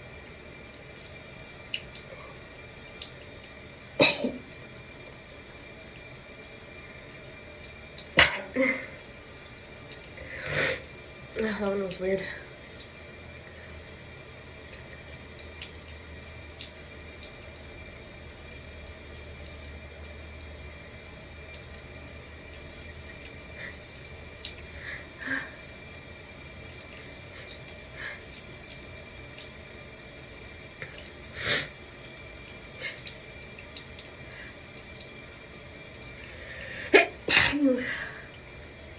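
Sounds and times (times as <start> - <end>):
shower water running: 0.0 - 38.9.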